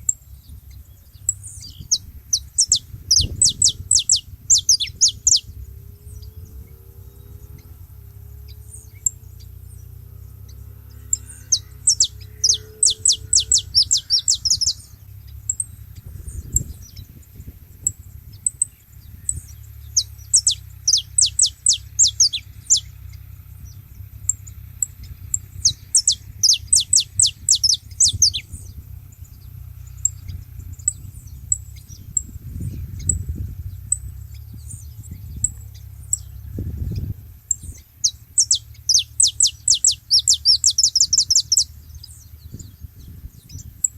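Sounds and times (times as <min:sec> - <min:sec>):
short high bird chirps: 0:00.0 - 0:05.6, 0:11.0 - 0:17.2, 0:17.8 - 0:23.0, 0:24.4 - 0:43.9
finches singing: 0:00.0 - 0:43.9.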